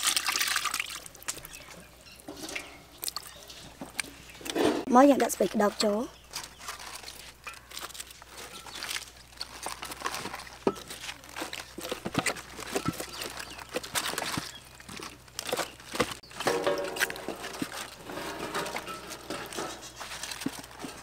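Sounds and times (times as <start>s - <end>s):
cabbage leaves tearing and crackling: 3.0s - 21.0s.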